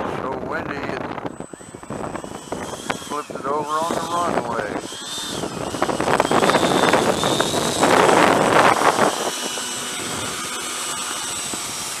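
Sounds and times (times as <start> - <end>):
electric fan whine: 0.0 - 12.0.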